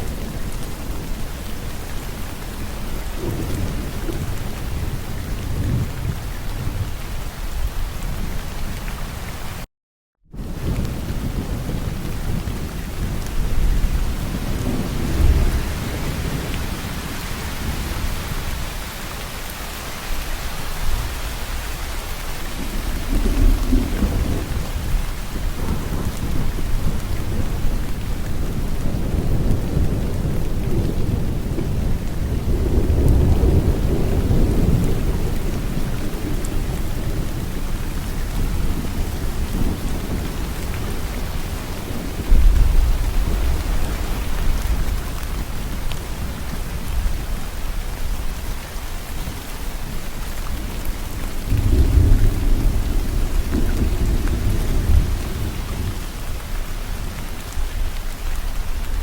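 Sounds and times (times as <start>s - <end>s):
thunder rumbling: 0.0s - 8.8s, 10.3s - 19.1s, 20.9s - 59.0s
heavy rain hissing: 10.4s - 59.0s.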